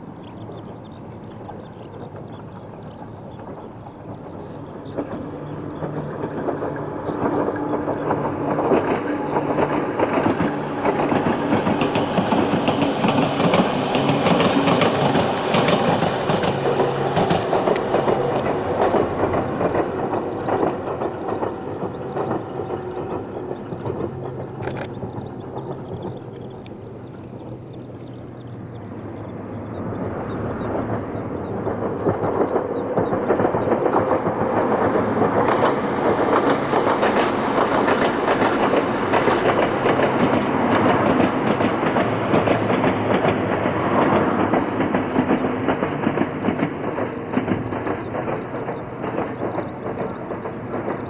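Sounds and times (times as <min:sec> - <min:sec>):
electric train passing: 0:00.0 - 0:51.0
wheels clacking over rail joints: 0:00.0 - 0:51.0.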